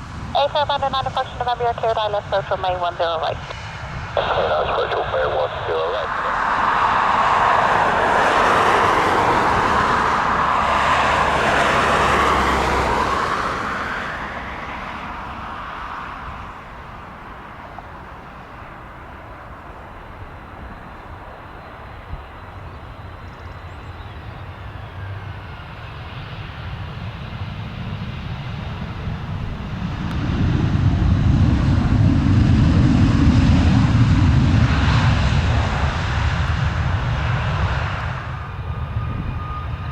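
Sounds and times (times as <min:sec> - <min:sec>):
deep engine rumble: 0:00.0 - 0:39.9
jet airliner engines whining: 0:00.0 - 0:39.9.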